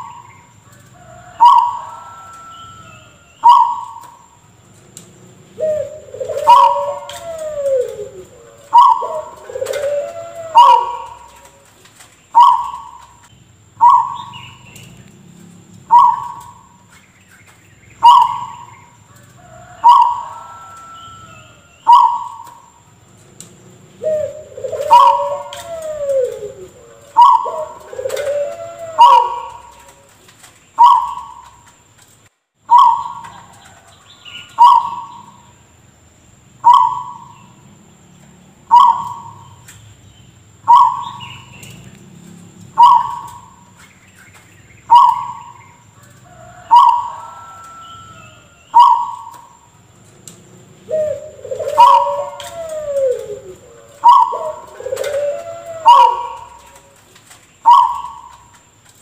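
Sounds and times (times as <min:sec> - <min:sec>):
bird gliding calls: 0:00.0 - 0:04.3, 0:05.5 - 0:15.0, 0:15.8 - 0:22.7, 0:23.9 - 0:31.7, 0:32.7 - 0:35.5, 0:36.6 - 0:37.6, 0:38.7 - 0:39.6, 0:40.7 - 0:41.9, 0:42.7 - 0:49.6, 0:50.8 - 0:58.6.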